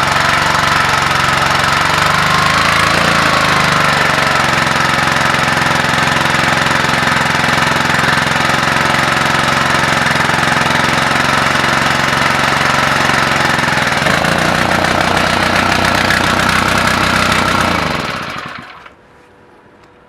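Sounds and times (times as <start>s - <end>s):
engine winding down: 0.0s - 19.0s
small petrol engine running: 0.0s - 19.0s.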